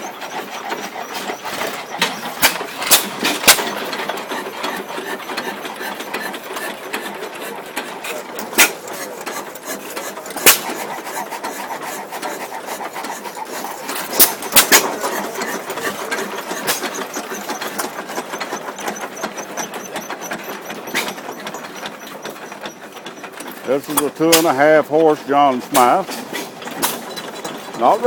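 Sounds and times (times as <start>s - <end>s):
stationary engine clattering: 0.0s - 28.0s.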